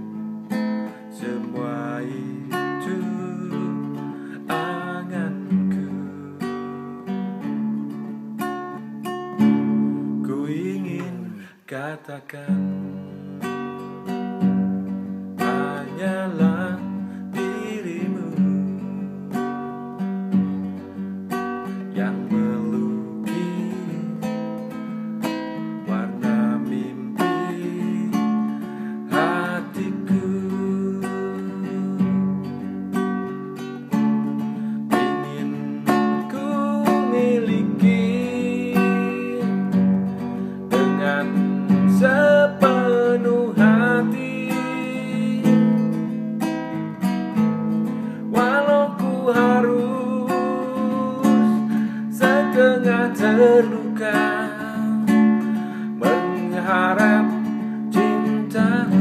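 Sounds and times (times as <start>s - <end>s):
acoustic guitar strumming: 0.0s - 59.0s
man singing: 1.0s - 7.2s, 9.6s - 13.4s, 15.4s - 19.8s, 21.6s - 24.8s, 25.6s - 32.7s, 34.0s - 46.2s, 47.3s - 59.0s.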